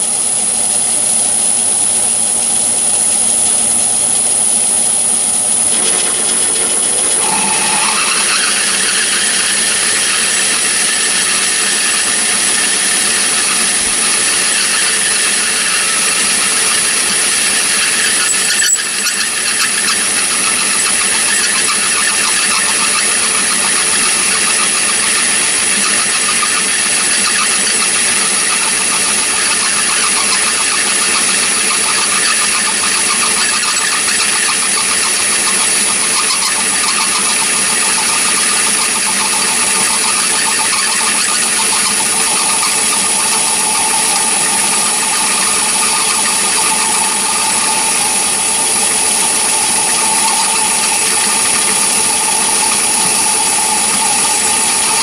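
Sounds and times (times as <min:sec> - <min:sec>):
lathe cutting steel with whine: 0:00.0 - 0:55.0
squealing tone: 0:05.1 - 0:55.0.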